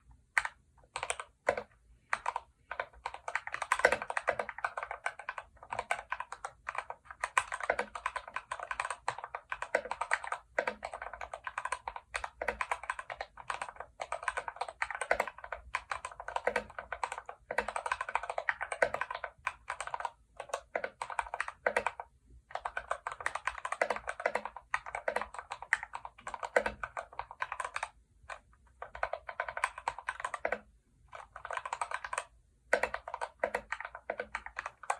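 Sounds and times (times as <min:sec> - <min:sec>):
fast typing on mechanical keyboard: 0:00.3 - 0:34.9.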